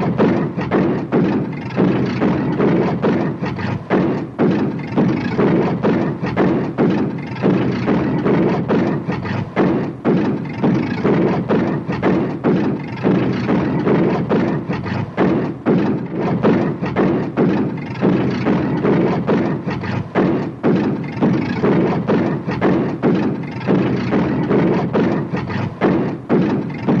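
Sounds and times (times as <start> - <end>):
car engine sputtering: 0.0 - 27.0.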